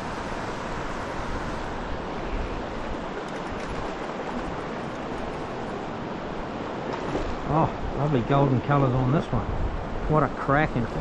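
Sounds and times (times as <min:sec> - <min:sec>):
river water rushing over stones: 0:00.0 - 0:09.0.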